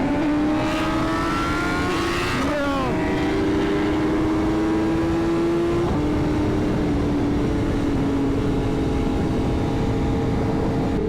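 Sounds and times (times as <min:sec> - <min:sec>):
heavy wind noise: 0:00.0 - 0:11.0
motorcycle engine cruising: 0:00.0 - 0:11.0.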